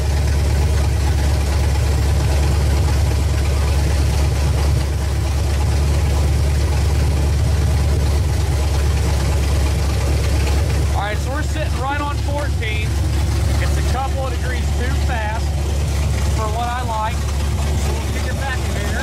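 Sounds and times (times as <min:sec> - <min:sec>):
car engine idling loudly: 0:00.0 - 0:19.0.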